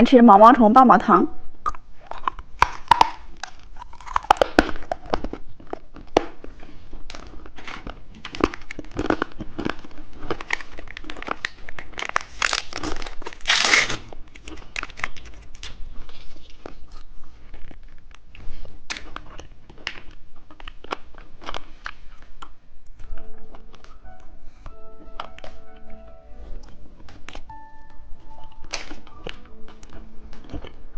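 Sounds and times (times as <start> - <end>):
plastic wrapper crinkling: 1.7 - 30.9.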